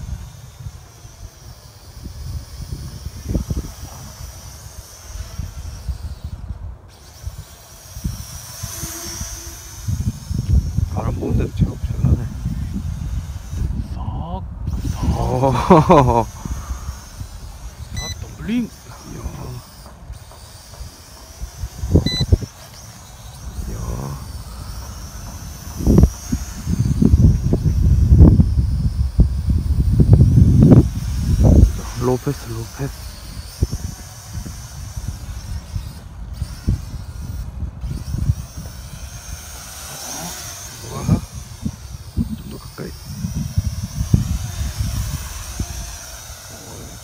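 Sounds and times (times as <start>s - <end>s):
drone motors whining: 0.0s - 47.0s
wind buffeting microphone: 0.0s - 47.0s.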